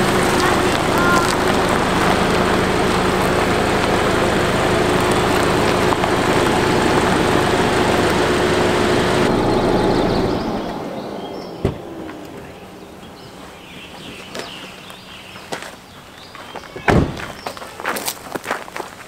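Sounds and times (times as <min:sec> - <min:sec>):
low hum: 0:00.0 - 0:16.3
car road and engine noise: 0:00.0 - 0:19.0.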